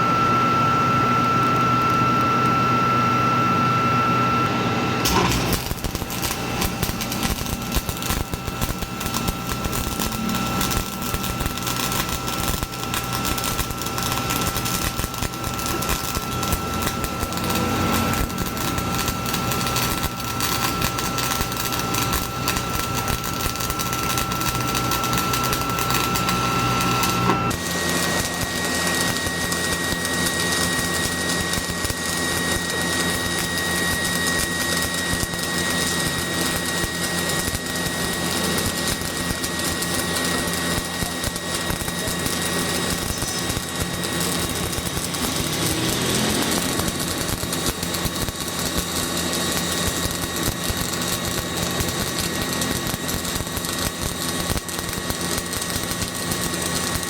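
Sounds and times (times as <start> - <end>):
welding arc crackling: 0.0 - 57.0.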